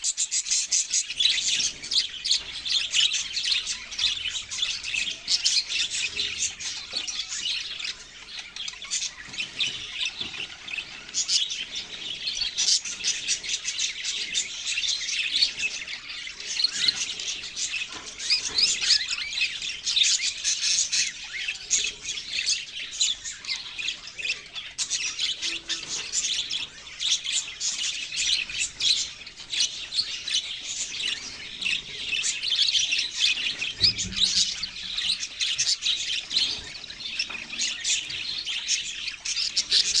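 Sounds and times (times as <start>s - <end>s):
budgerigars chirping: 0.0s - 40.0s.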